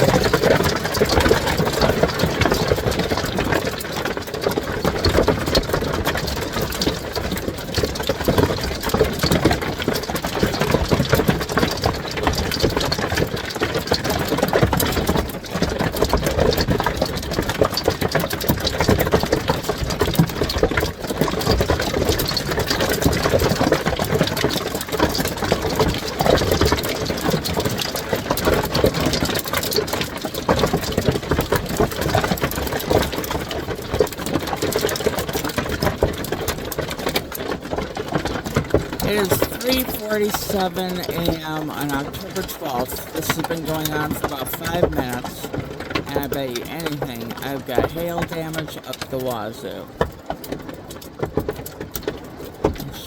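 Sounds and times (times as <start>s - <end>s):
heavy hail hitting a roof: 0.0s - 40.1s, 49.9s - 52.8s.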